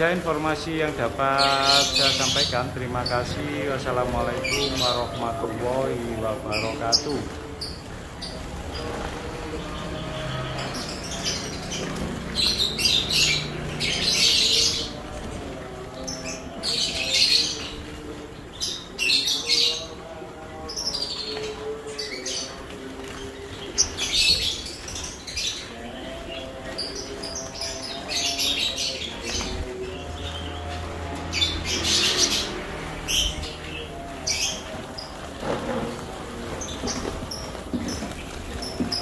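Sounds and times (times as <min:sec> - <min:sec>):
sunbirds chirping: 0:00.0 - 0:39.0.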